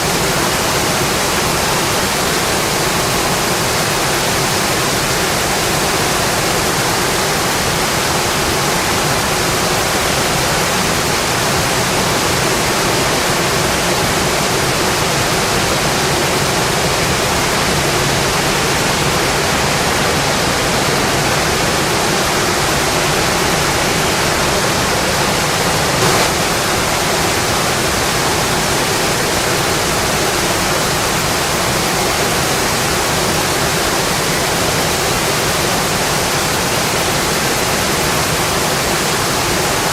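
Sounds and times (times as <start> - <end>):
rainfall hiss: 0.0 - 39.9.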